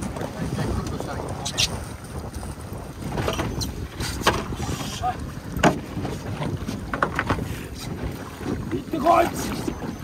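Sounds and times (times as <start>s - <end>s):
sea water rushing: 0.0s - 10.0s
wind buffeting microphone: 0.0s - 10.0s.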